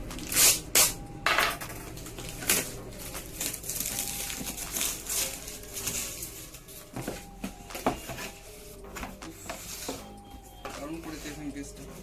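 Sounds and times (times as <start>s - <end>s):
cardboard and plastic packaging rustling: 0.0s - 12.0s.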